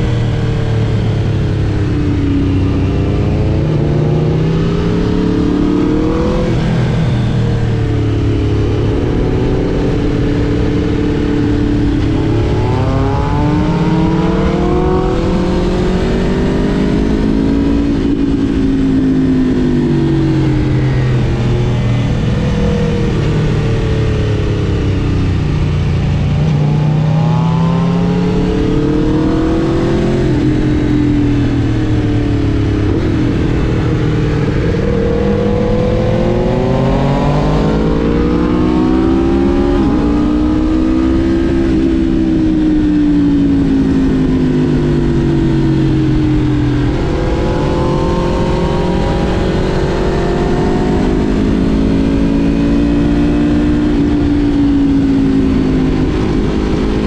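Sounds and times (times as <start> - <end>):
motorcycle engine revving: 0.0 - 57.0
rush of wind: 0.0 - 57.0.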